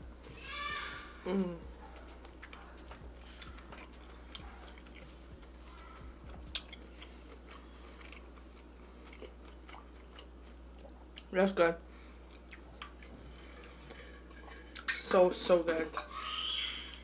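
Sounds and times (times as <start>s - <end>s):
person chewing food: 1.2s - 15.0s.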